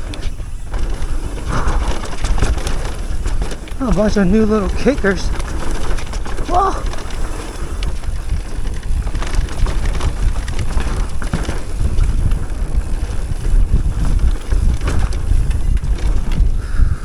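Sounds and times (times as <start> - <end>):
tyres rolling over dirt: 0.0 - 16.8
bike knocks and rattles: 0.0 - 17.0
wind buffeting microphone: 0.0 - 17.0.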